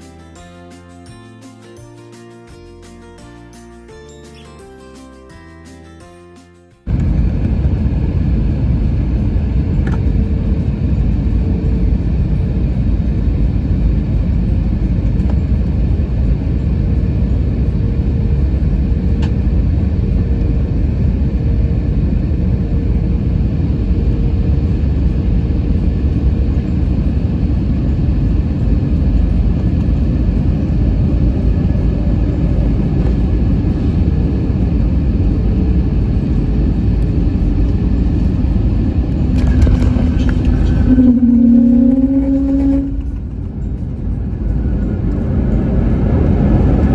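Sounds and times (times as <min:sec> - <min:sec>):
airliner cabin rumble: 0:06.9 - 0:46.9
constant hum: 0:06.9 - 0:46.9.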